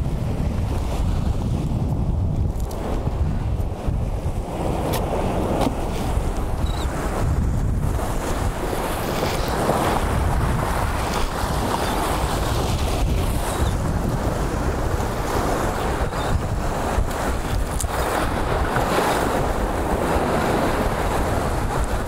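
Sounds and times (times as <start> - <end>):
ocean surf washing: 0.0 - 22.0
wind buffeting microphone: 0.0 - 22.0.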